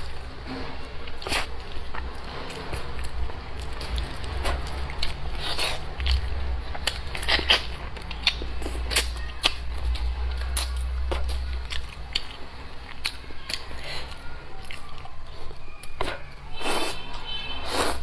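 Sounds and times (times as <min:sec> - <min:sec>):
crunchy chewing of fried food: 0:00.0 - 0:18.0.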